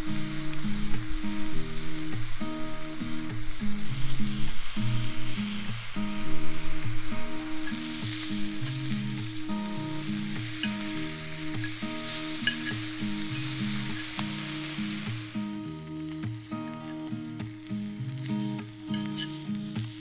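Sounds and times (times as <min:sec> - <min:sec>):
food sizzling in a skillet: 0:00.0 - 0:20.0.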